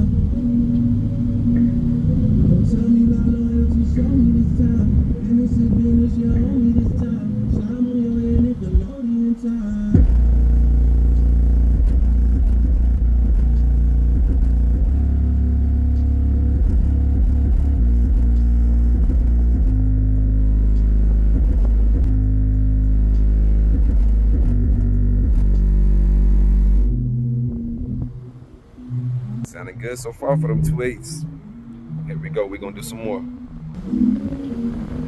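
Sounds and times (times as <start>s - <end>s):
bass-heavy music through subwoofers: 0.0s - 35.0s.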